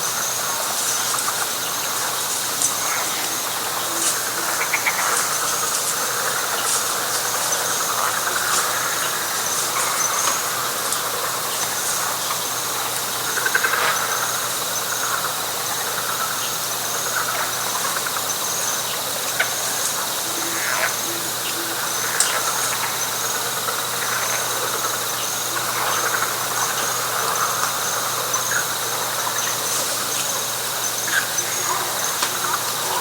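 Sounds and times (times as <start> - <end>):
thin high insect whine: 0.0 - 33.0.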